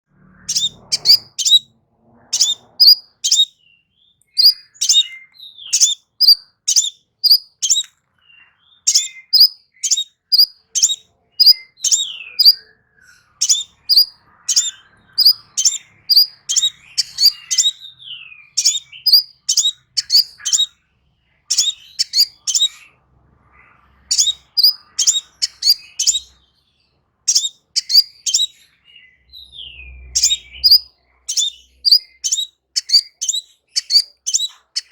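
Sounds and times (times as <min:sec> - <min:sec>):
bird high chirps: 0:00.1 - 0:34.9.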